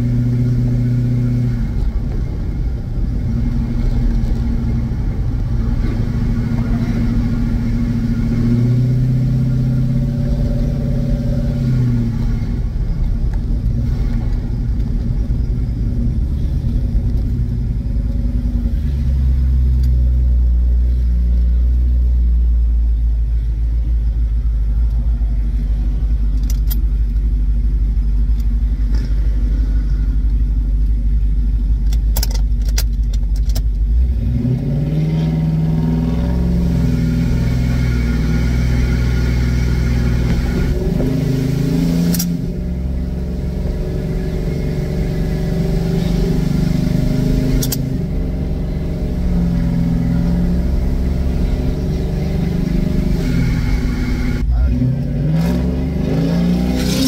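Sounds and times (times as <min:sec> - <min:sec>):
pickup truck engine rumbling: 0:00.0 - 0:57.0.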